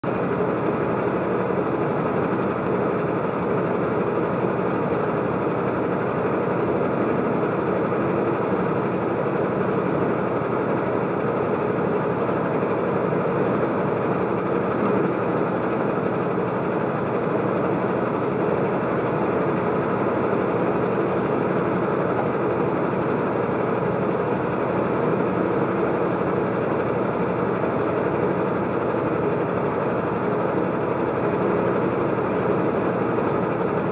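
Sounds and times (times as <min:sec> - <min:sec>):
engine and tyre noise in cab: 0:00.1 - 0:33.9.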